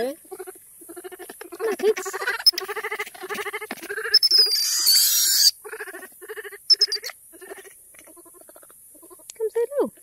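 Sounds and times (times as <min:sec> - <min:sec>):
baby monkeys crying: 0:00.0 - 0:09.2.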